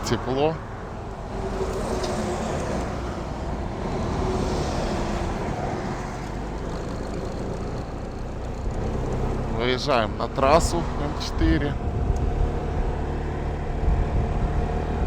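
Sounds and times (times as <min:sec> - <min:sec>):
car engine hum: 0:00.0 - 0:15.0
road and tyre noise: 0:00.0 - 0:15.0.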